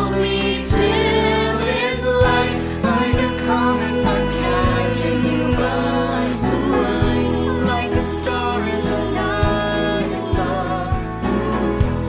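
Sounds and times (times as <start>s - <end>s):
low musical accompaniment: 0.0s - 12.0s
young singers in harmony: 0.0s - 12.0s.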